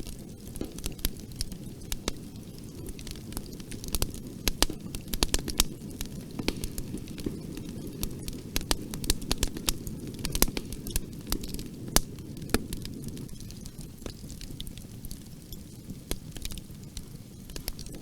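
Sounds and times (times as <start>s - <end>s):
bonfire flames rumbling: 0.0s - 18.0s
burning wood crackling and popping: 0.0s - 18.0s.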